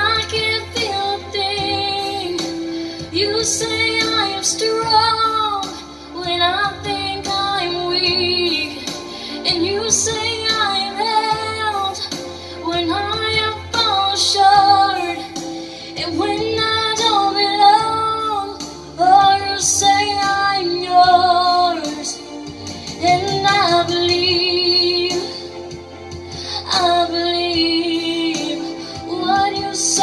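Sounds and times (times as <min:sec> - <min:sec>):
karaoke backing track: 0:00.0 - 0:30.0
woman singing into microphone: 0:00.0 - 0:30.0.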